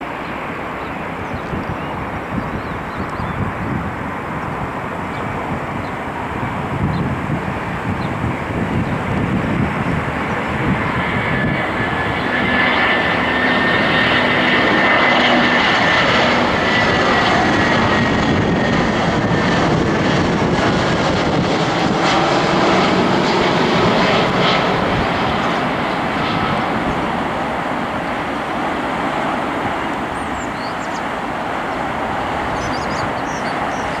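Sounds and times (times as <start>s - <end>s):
jet engine high whine: 0.0s - 34.0s
jet engines roaring: 0.0s - 34.0s.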